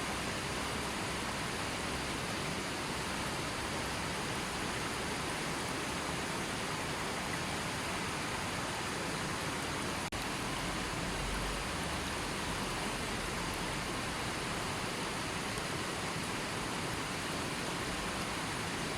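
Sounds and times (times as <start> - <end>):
river flowing: 0.0 - 18.9.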